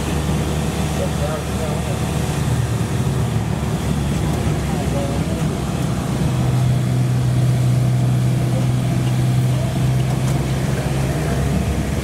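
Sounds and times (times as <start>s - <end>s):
train engine running: 0.0s - 12.0s.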